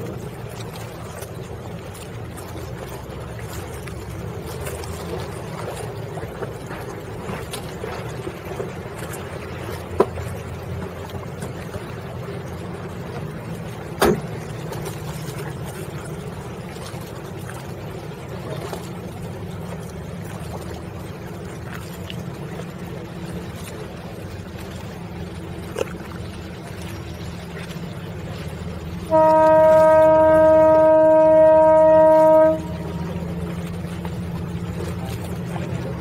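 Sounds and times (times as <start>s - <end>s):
boat motors rumbling: 0.0s - 36.0s.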